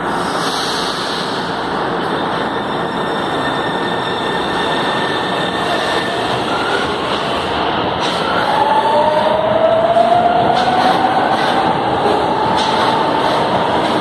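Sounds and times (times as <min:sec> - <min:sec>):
metro train rumbling past: 0:00.0 - 0:14.0.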